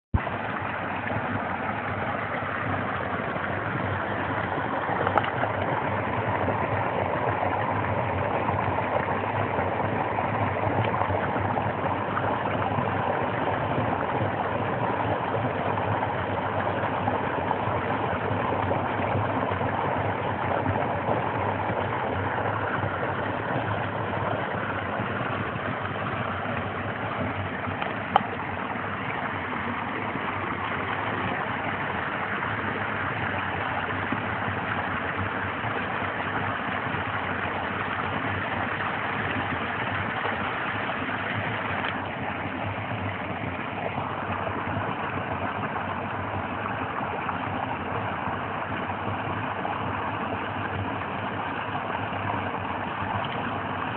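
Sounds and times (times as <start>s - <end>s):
stream rushing over rocks: 0.2s - 53.9s.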